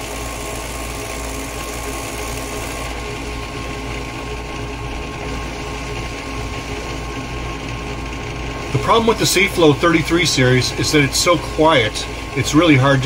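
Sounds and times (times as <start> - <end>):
pump humming: 0.0 - 13.0.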